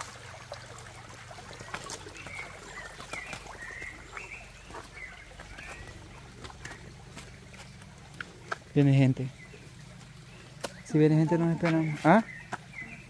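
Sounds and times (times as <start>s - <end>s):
bird chirping: 2.1s - 13.0s.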